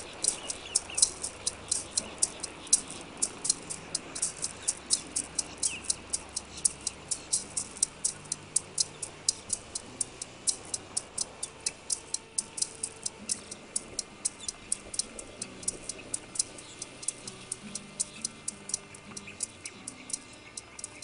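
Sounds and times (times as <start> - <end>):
quick steady ticking: 0.0 - 21.0
soft low music: 0.0 - 21.0.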